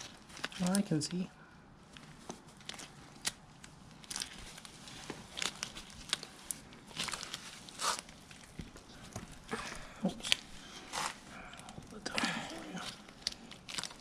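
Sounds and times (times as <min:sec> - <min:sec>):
glove rustling: 0:01.8 - 0:14.0.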